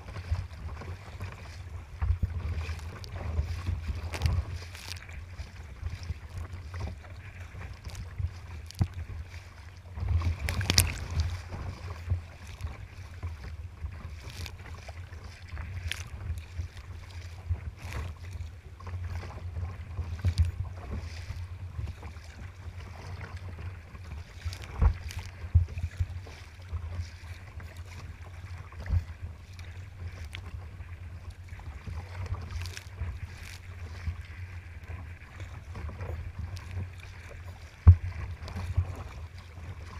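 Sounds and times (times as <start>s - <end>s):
waves splashing against kayak: 0.0s - 39.9s
wind rumble on microphone: 0.0s - 39.9s.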